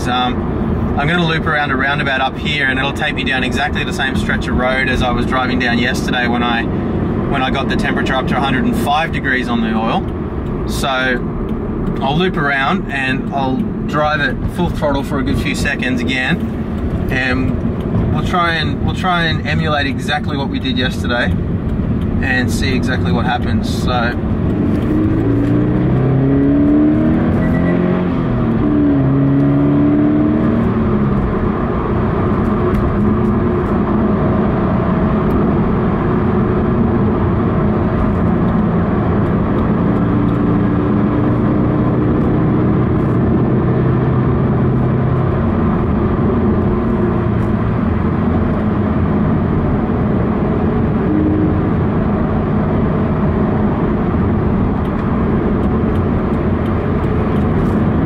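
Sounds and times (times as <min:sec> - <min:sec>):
car engine revving: 0:00.0 - 0:58.0
road and tyre noise: 0:00.0 - 0:58.0.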